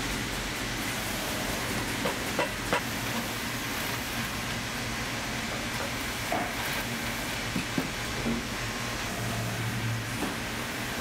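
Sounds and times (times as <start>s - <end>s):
mechanical hiss: 0.0s - 11.0s.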